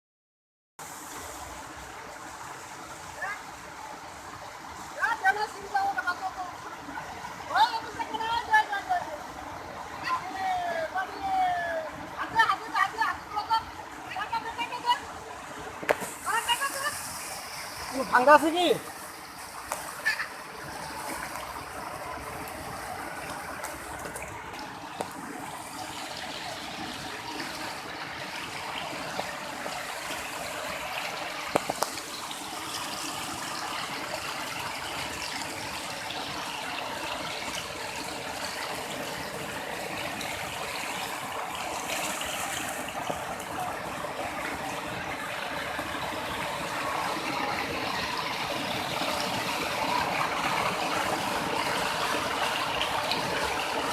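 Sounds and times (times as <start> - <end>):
floodwater rushing: 0.8 - 53.9.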